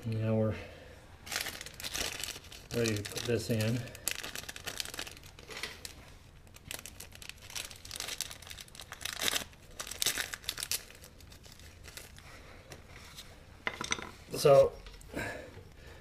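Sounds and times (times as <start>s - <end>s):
crinkling and rustling by hand: 1.2s - 16.0s.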